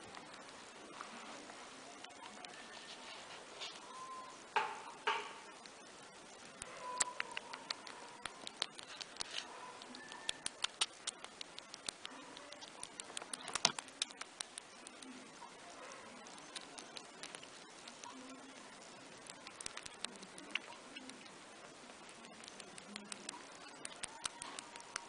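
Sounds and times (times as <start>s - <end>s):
rabbits nibbling and chewing: 0.0s - 25.0s.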